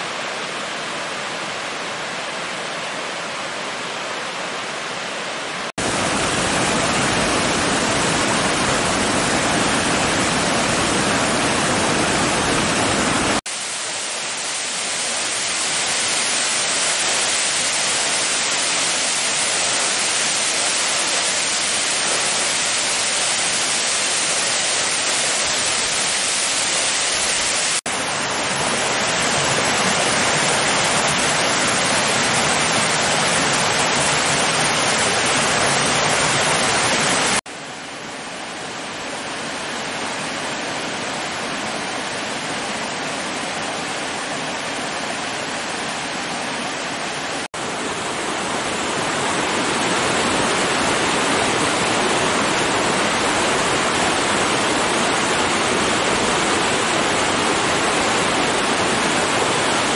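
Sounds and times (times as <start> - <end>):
stream flowing: 0.0 - 59.9
waterfall rushing: 0.0 - 59.9.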